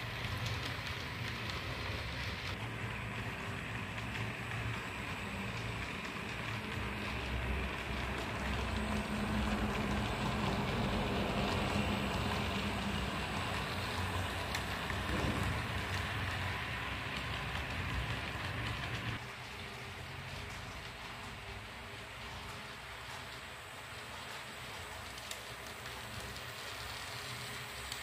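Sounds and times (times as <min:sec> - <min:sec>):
model train motor humming: 0:00.0 - 0:28.0
wheels pattering over rails: 0:00.0 - 0:28.0.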